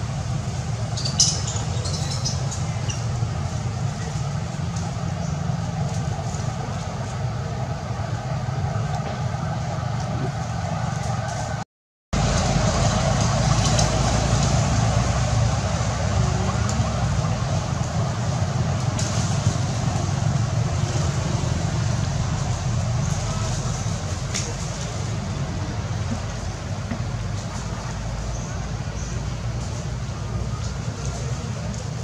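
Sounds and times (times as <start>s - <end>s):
low rumble with hiss: 0.0s - 11.6s, 12.2s - 32.0s.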